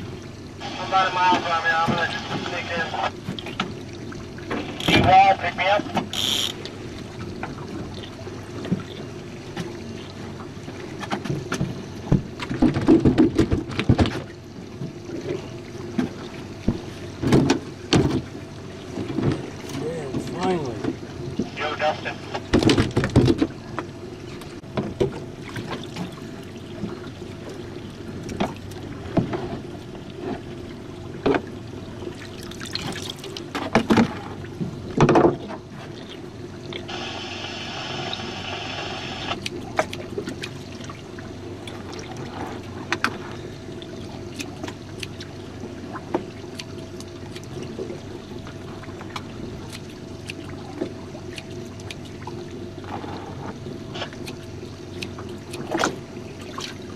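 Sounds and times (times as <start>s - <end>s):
steady low hum: 0.0s - 56.9s
water trickling and splashing: 0.0s - 56.9s.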